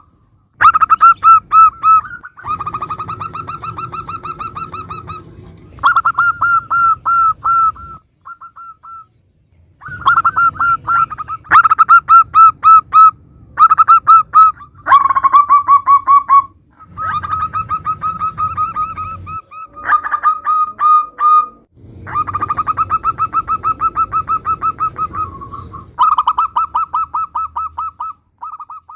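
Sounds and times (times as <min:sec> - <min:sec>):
doves cooing: 0:00.0 - 0:09.1, 0:09.8 - 0:28.9.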